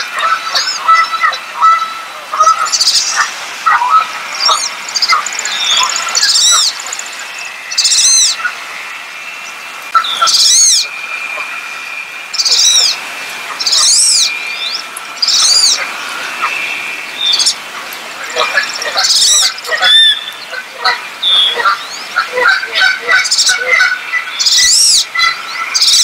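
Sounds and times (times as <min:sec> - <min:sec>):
duck whistled calls: 0:00.0 - 0:17.6, 0:18.2 - 0:26.0.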